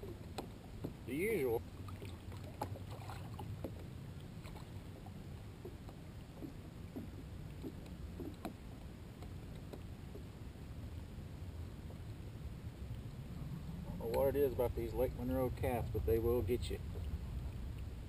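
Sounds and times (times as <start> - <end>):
water dripping and lapping: 0.0 - 18.0
wind rumble on microphone: 0.0 - 18.0.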